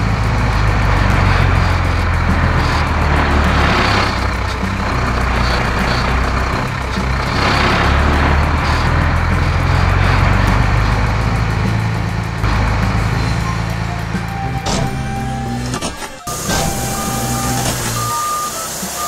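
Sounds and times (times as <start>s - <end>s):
heavy truck engine running: 0.0s - 19.0s.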